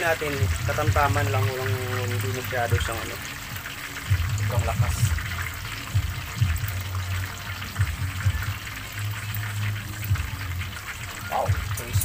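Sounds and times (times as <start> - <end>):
oil popping and crackling: 0.0 - 12.0
oil sizzling and bubbling: 0.0 - 12.0.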